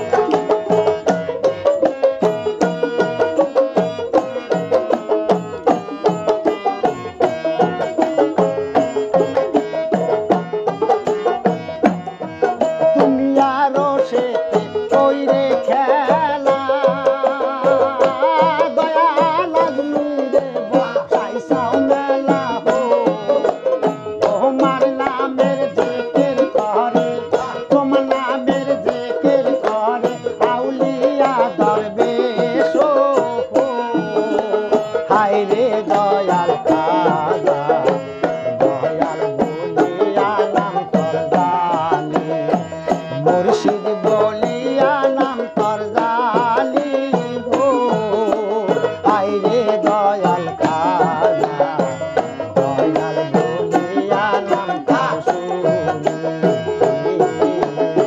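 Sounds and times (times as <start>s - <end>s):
hand drum beating: 0.0s - 58.0s
man singing: 0.0s - 58.0s
plucked string lute: 0.0s - 58.0s.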